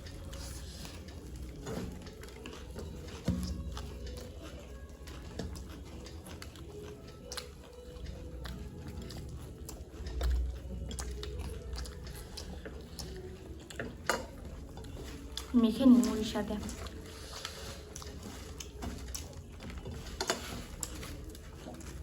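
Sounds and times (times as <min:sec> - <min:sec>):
close-up chewing of food: 0:00.0 - 0:22.0.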